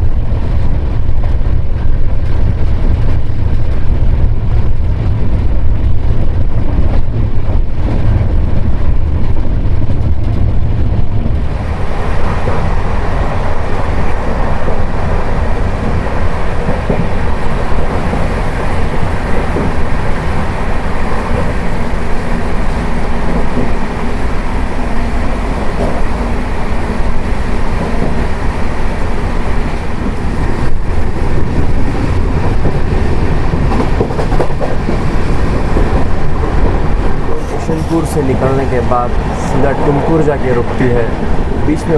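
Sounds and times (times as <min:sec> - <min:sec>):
train coach rumbling on rails: 0:00.0 - 0:41.9.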